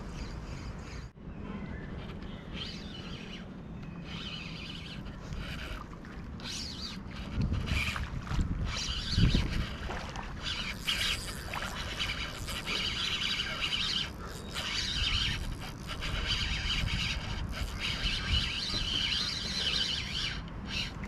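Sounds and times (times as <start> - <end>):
small birds chirping: 0.0 - 5.8, 6.4 - 8.0, 10.4 - 21.0.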